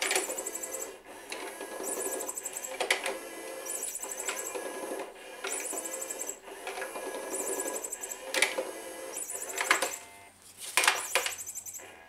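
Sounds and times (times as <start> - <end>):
toy motor whirring: 0.0 - 10.1, 10.8 - 12.0.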